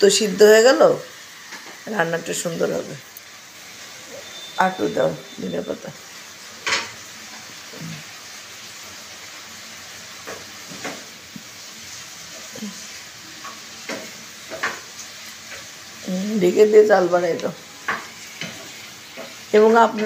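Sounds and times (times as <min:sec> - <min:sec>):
vegetables sizzling in frying pan: 0:00.0 - 0:20.0.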